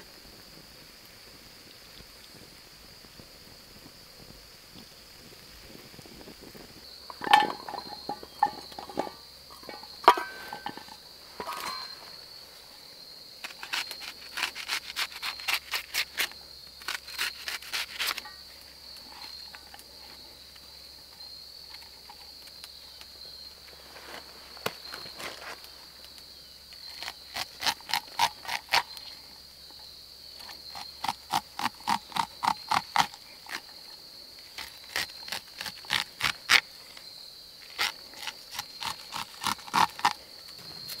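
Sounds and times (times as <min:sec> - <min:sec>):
high insect buzz: 0:00.0 - 0:41.0.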